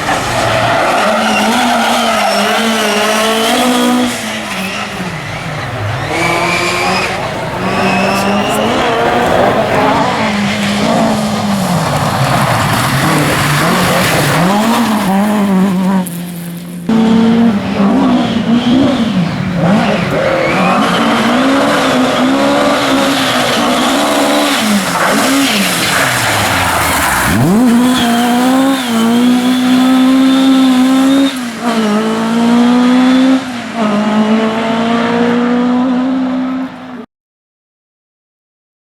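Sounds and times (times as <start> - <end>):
rally car engines revving: 0.0 - 37.1.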